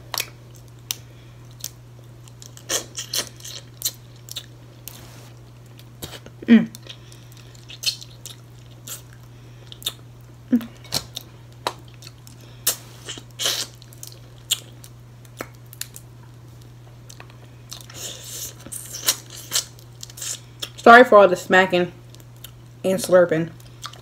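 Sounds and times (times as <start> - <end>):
wet chewing and smacking: 0.1 - 5.0, 5.6 - 20.8, 23.6 - 24.0.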